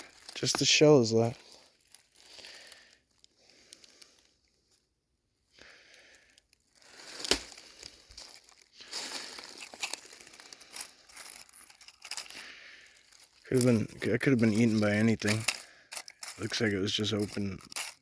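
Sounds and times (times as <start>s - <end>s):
rustling and crinkling: 0.0s - 18.0s.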